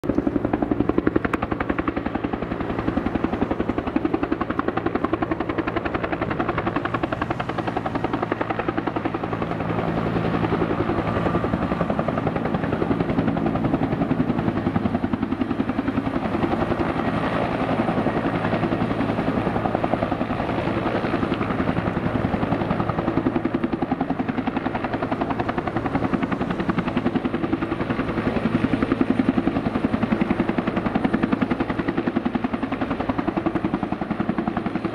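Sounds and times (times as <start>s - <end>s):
helicopter engines running: 0.0s - 34.9s
helicopter rotor beating: 0.0s - 34.9s.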